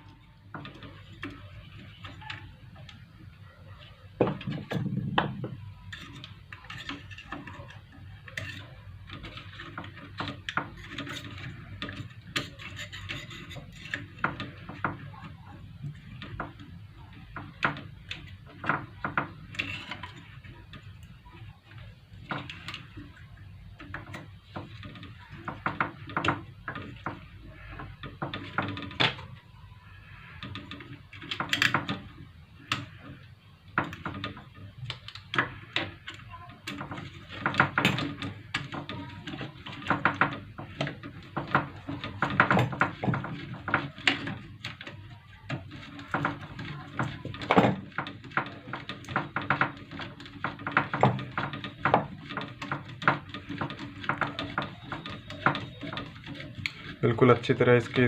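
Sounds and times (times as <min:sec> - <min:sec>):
tools clicking and knocking: 0:00.0 - 0:58.0.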